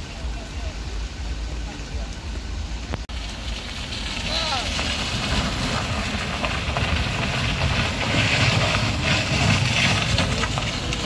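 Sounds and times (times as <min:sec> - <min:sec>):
heavy truck engine rumbling: 0:00.0 - 0:11.0.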